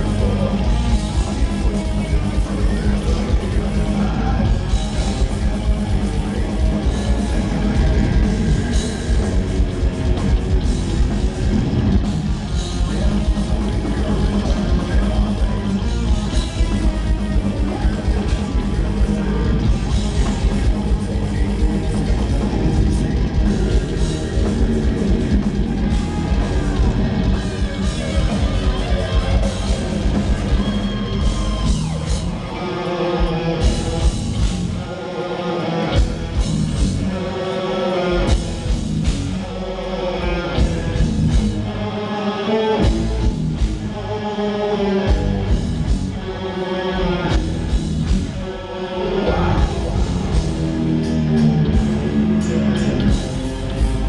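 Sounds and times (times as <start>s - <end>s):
distorted electric guitars: 0.0s - 54.0s
drums: 0.0s - 54.0s
sung vocals: 0.0s - 54.0s.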